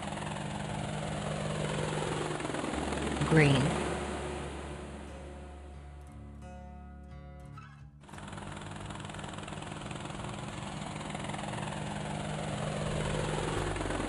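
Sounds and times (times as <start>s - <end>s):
helicopter rotor chop: 0.0s - 5.8s, 8.0s - 14.0s.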